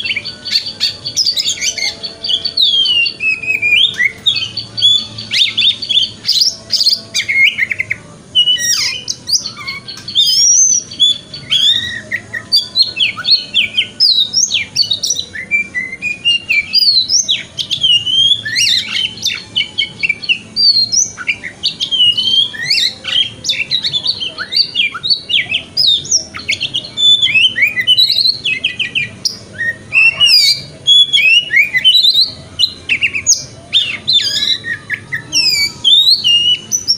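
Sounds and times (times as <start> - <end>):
songbird singing: 0.0 - 36.9.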